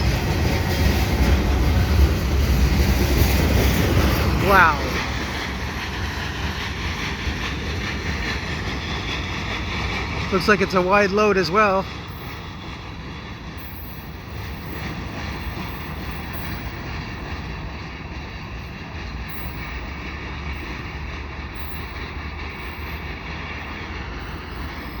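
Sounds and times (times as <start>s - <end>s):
freight cars rolling on rails: 0.0s - 25.0s.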